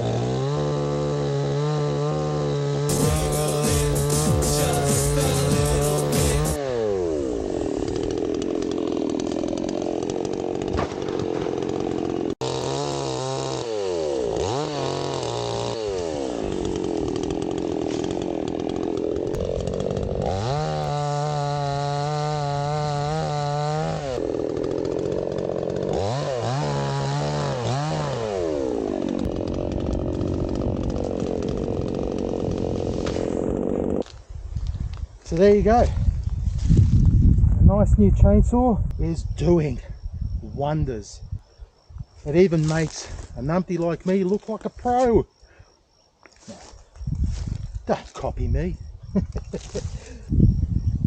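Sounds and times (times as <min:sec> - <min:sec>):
chainsaw cutting wood: 0:00.0 - 0:35.3, 0:42.3 - 0:45.1, 0:46.3 - 0:47.8, 0:49.1 - 0:50.4.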